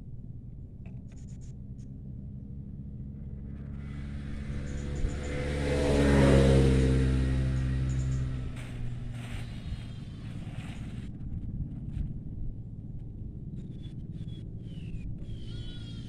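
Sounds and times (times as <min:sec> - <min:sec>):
vehicle passing by: 0:01.4 - 0:16.0.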